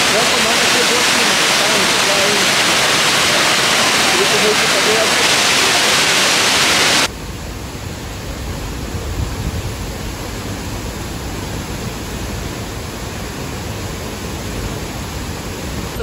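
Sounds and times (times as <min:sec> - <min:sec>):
waterfall roar: 0:00.0 - 0:16.0
dull deep rushing noise: 0:01.5 - 0:16.0.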